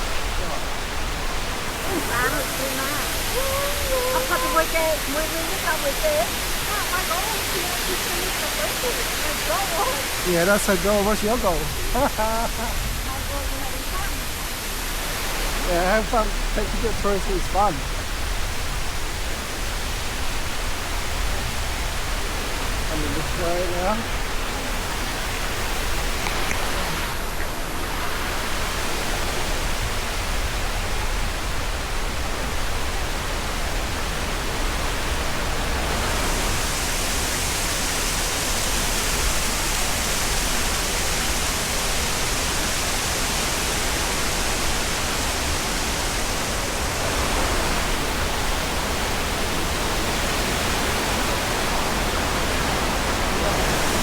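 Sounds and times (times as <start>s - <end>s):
steady rushing noise: 0.0s - 54.0s.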